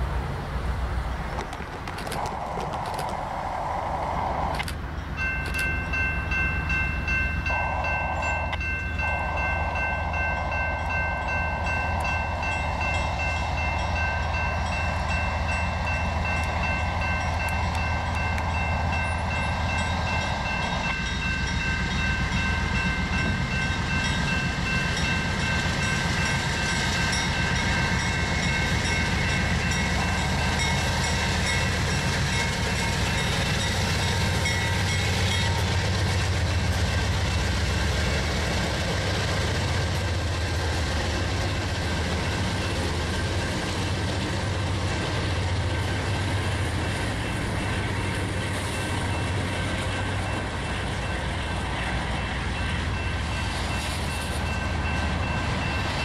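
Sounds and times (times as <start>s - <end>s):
locomotive rumble: 0.0s - 56.0s
crossing warning bells ringing: 4.6s - 56.0s.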